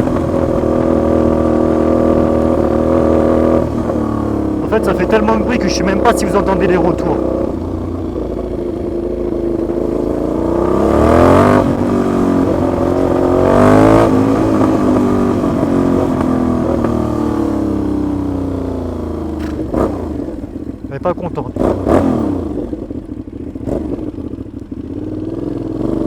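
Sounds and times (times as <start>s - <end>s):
motorcycle engine accelerating loudly: 0.0s - 26.0s.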